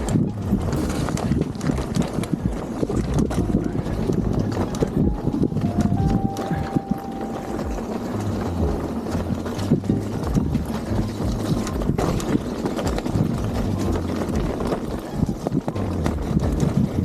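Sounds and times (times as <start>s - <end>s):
bike knocking and rattling: 0.0s - 17.0s
bike tyres on dirt trail: 0.0s - 17.0s.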